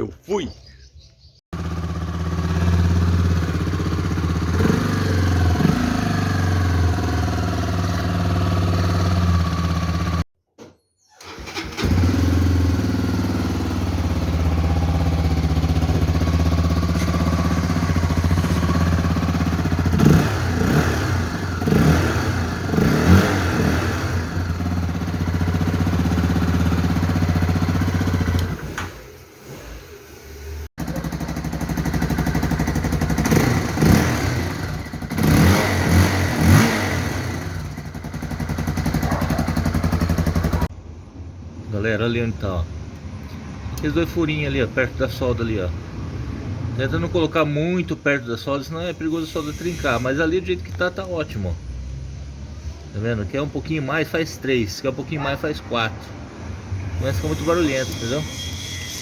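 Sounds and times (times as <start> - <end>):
motorcycle engine idling and revving: 1.2 - 10.3, 11.2 - 41.6, 45.1 - 59.0.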